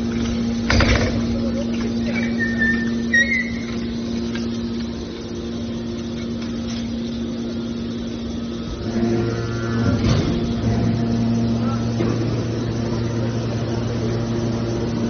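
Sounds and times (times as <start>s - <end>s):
hydraulic machine hum: 0.0s - 15.0s.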